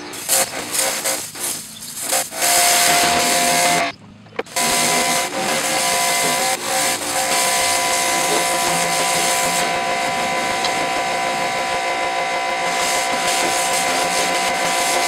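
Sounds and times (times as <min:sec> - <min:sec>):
water jet hissing on wet boards: 0:00.0 - 0:03.8, 0:04.5 - 0:11.8, 0:12.6 - 0:15.0
pressure washer pump whining: 0:00.0 - 0:15.0.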